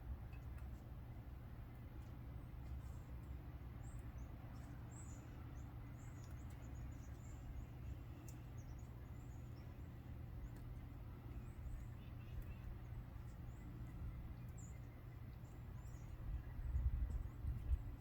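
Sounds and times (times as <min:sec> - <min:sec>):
small birds chirping: 0:02.0 - 0:18.0.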